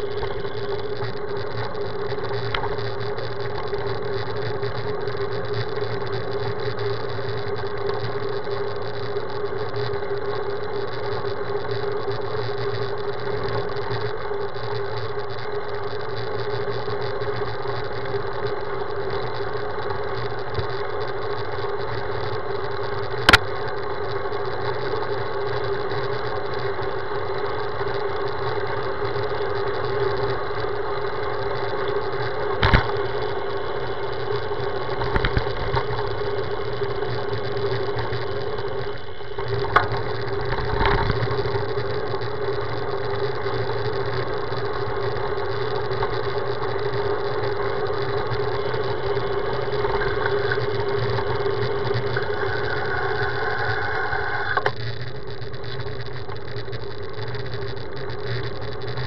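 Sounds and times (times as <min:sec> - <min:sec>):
bicycle rolling on asphalt: 0:00.0 - 0:59.0.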